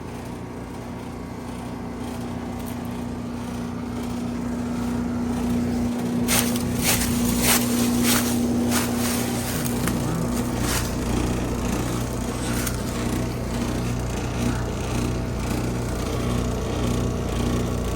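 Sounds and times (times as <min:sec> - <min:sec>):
motor humming: 0:02.2 - 0:17.9.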